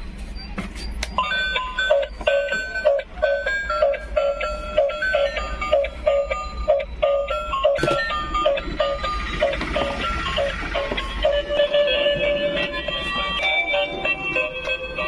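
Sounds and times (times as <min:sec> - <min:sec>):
toy playing electronic beeping tune: 0:01.0 - 0:15.0.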